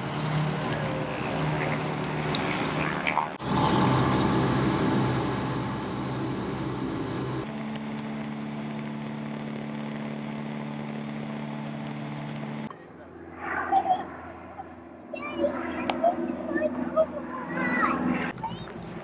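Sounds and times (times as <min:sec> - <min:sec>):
propeller aircraft engine drone: 0:00.0 - 0:19.0
wind: 0:00.0 - 0:19.0.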